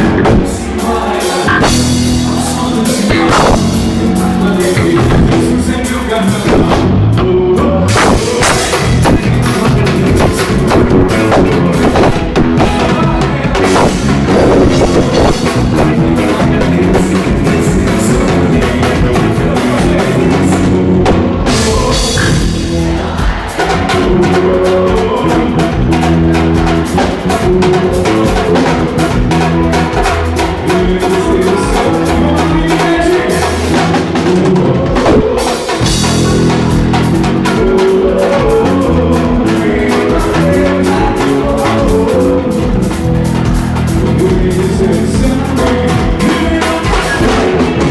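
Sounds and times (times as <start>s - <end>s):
bass: 0.0s - 47.9s
drum kit steady beat: 0.0s - 47.9s
live band playing loud music: 0.0s - 47.9s.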